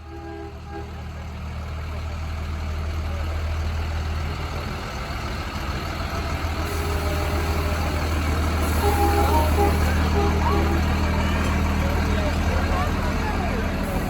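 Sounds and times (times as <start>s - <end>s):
truck diesel engine drone: 0.0s - 14.0s.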